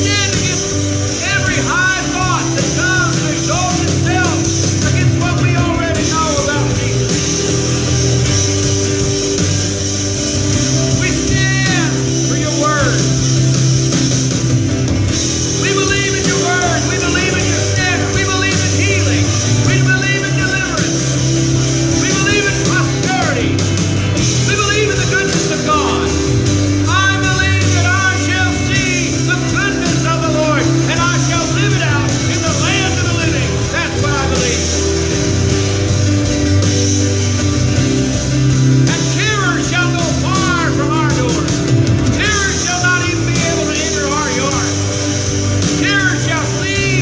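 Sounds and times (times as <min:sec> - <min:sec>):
guitar: 0:00.0 - 0:47.0
worship band music: 0:00.0 - 0:47.0.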